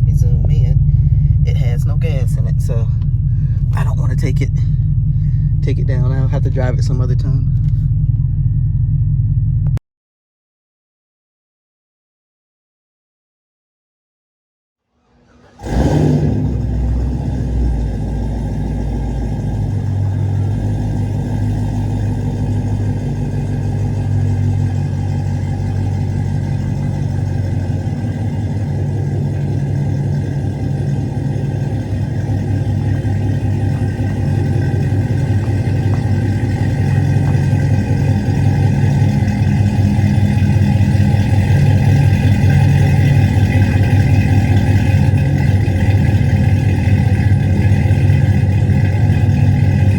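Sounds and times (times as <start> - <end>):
car engine idling: 0.0 - 9.8, 15.2 - 49.9.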